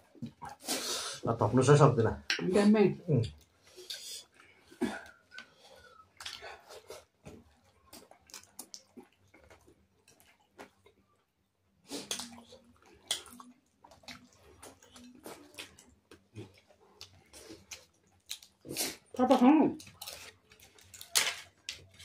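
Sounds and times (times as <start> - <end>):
wet chewing and lip-smacking: 3.3 - 22.0.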